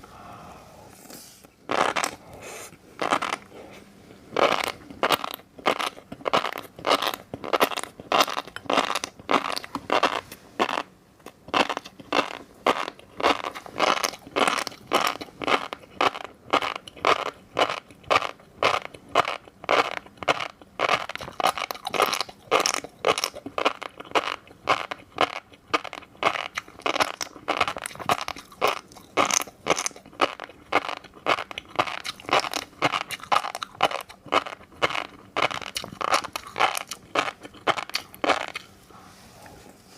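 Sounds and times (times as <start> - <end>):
chewing crunchy fish roe: 1.7 - 2.2, 3.0 - 38.8.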